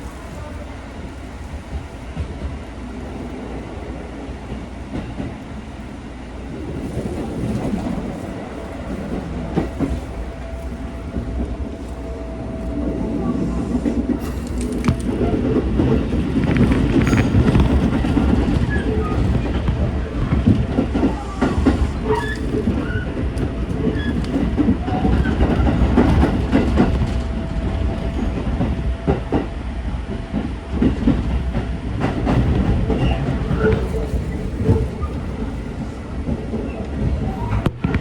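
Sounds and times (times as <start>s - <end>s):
train running rumble: 0.0s - 38.0s.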